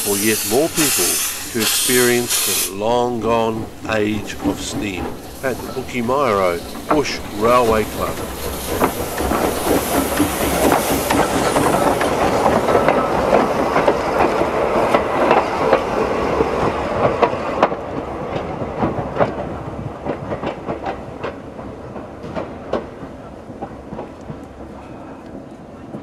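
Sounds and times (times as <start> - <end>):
steam locomotive hissing: 0.0 - 26.0
train wheels clicking over rail joints: 0.0 - 26.0.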